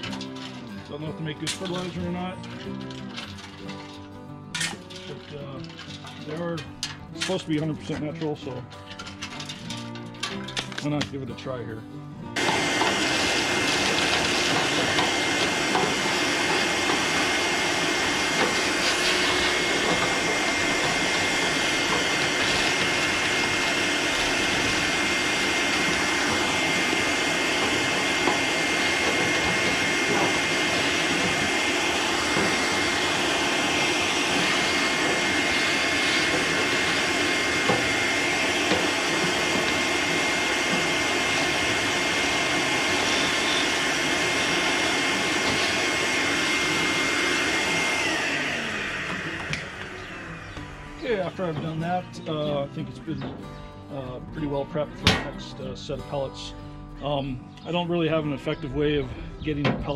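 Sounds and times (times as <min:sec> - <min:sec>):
shop vacuum running with whine: 0:00.0 - 0:04.0, 0:04.6 - 0:11.7, 0:12.3 - 0:56.4.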